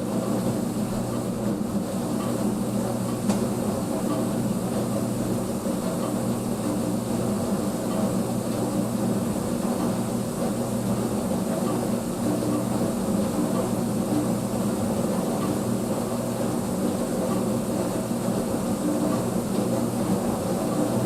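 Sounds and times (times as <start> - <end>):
dishwasher motor hum: 0.0 - 21.0.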